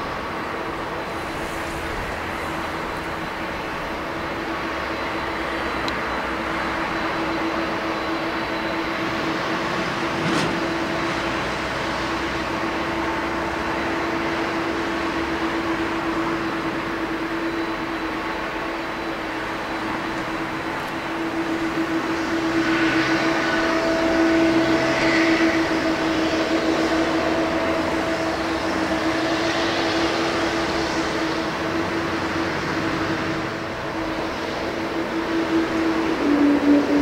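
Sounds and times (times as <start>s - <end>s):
jet engines whining: 0.0s - 37.0s.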